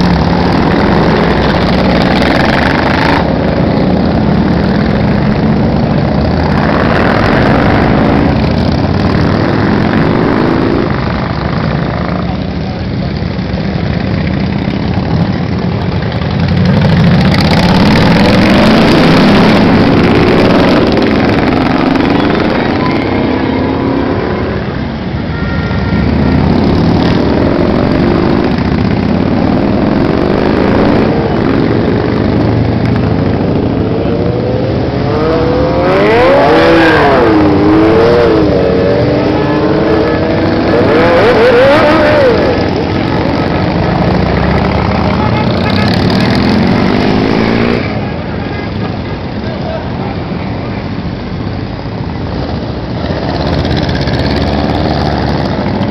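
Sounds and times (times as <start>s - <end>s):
motorcycles revving past: 0.0s - 12.3s, 13.4s - 25.0s, 25.9s - 48.2s, 52.4s - 55.9s.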